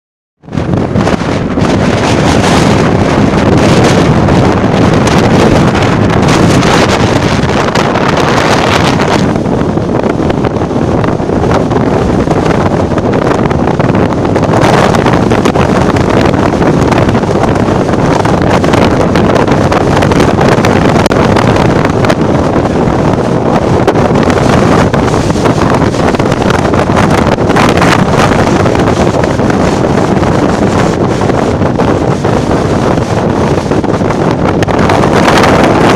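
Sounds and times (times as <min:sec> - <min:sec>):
wind buffeting microphone: 0:00.4 - 0:35.9.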